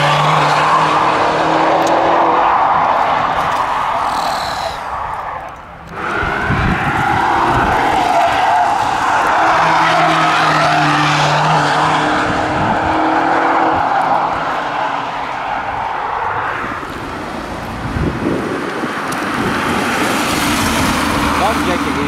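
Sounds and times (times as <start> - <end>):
car engine passing fast: 0.0 - 22.0.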